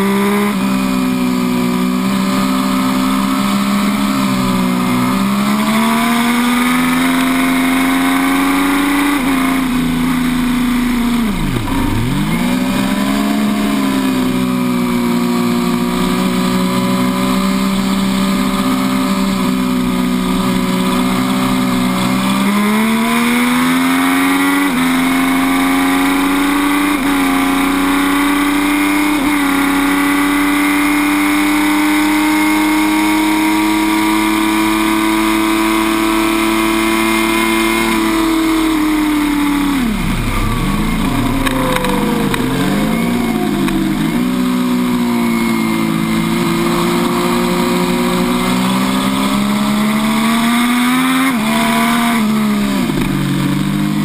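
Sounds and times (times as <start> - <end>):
motorcycle engine at full throttle: 0.0 - 54.0
motorcycle engine downshifting: 0.6 - 54.0.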